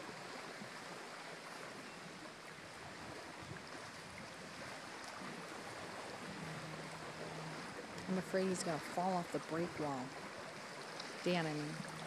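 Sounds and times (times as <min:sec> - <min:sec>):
small waves on rocky shore: 0:00.0 - 0:12.0.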